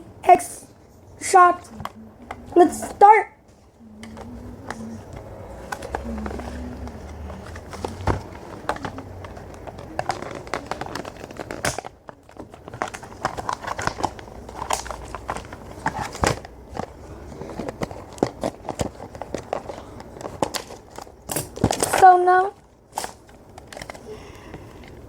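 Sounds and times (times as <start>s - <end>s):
cardboard and plastic crinkling: 1.3s - 25.0s.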